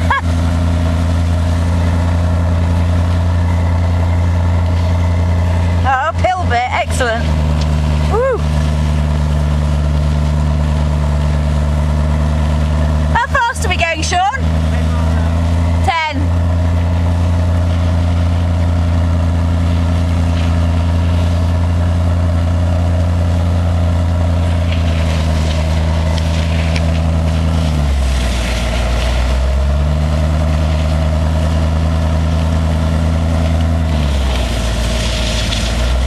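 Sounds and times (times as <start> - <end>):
car engine droning: 0.0 - 36.0.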